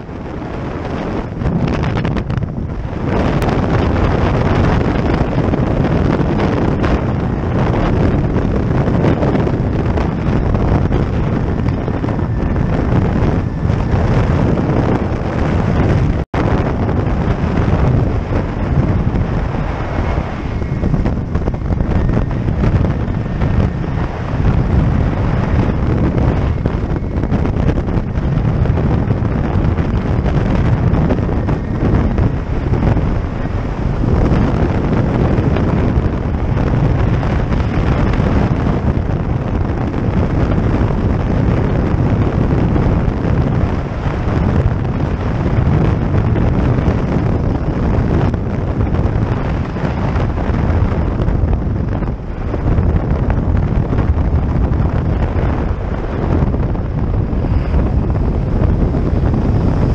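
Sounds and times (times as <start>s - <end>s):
aircraft engine drone: 0.0s - 59.9s
wind buffeting a microphone: 0.0s - 59.9s.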